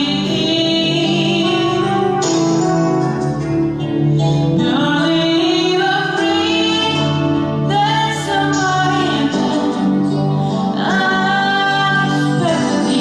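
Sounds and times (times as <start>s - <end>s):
person singing long notes: 0.0s - 3.5s, 4.5s - 13.0s
instrumental accompaniment: 0.0s - 13.0s.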